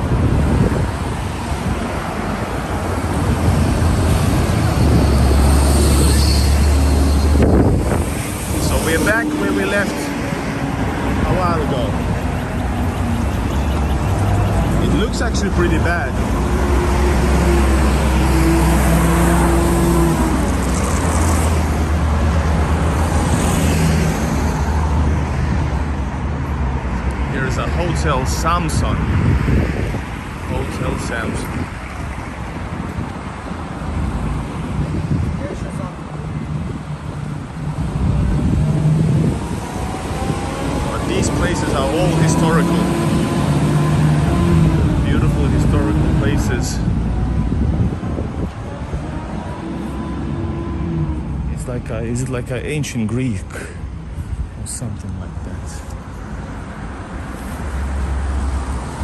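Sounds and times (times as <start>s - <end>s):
vehicle passing by: 0.0s - 52.6s.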